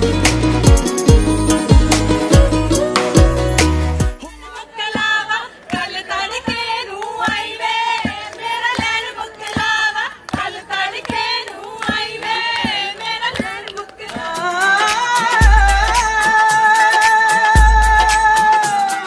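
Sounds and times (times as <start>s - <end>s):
song with singing over beat: 0.0s - 19.0s.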